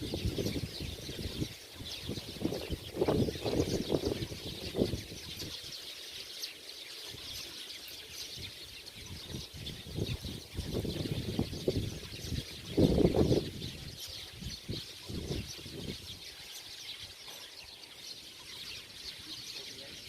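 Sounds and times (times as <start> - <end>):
flock of small birds chattering: 0.0 - 20.0.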